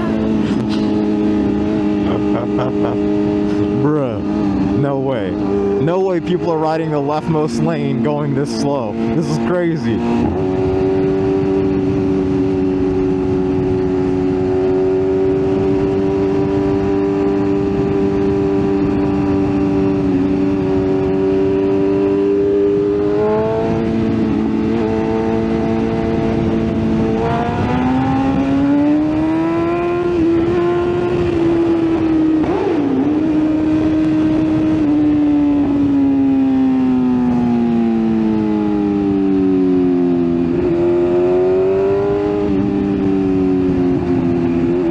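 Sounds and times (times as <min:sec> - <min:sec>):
motorcycle engine running: 0:00.0 - 0:08.0, 0:08.9 - 0:44.9.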